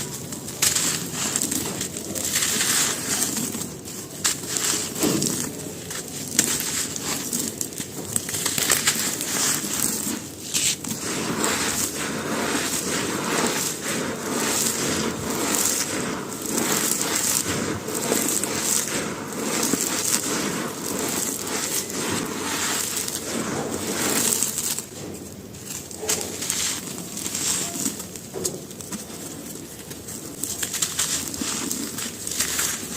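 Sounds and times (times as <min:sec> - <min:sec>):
brittle chunks crunching: 0:00.0 - 0:32.9.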